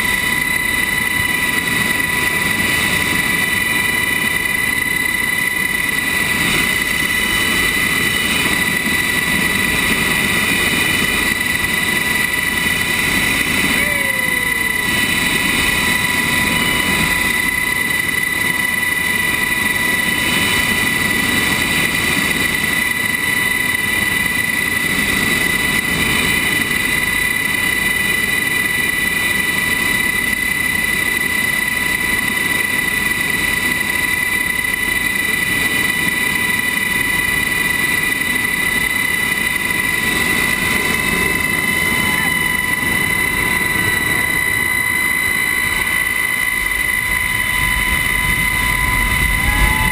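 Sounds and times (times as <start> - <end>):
helicopter rotor blades turning: 0.0 - 49.9
high-pitched turbine whine: 0.0 - 49.9.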